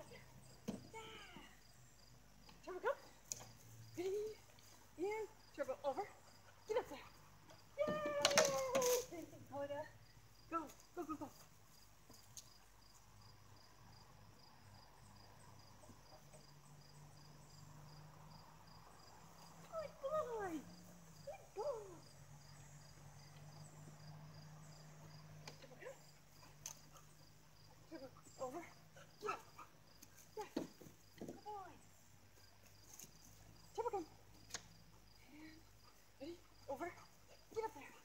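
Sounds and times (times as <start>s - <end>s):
insect chirping steadily: 0.0s - 38.0s.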